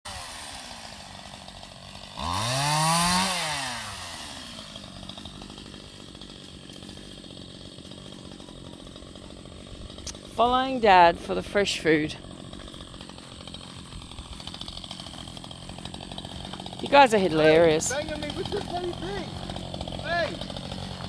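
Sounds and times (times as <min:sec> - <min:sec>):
chainsaw idling and revving: 0:00.0 - 0:21.0.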